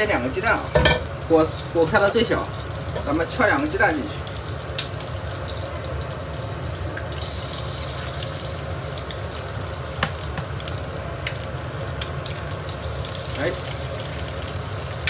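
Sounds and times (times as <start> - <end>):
food sizzling in wok: 0.0 - 15.0.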